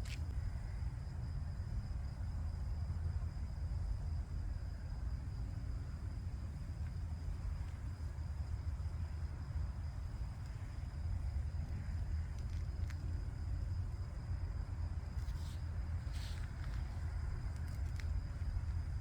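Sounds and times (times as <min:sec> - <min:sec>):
high-pitched insect trill: 0:00.0 - 0:19.0
steady low rumble: 0:00.0 - 0:19.0.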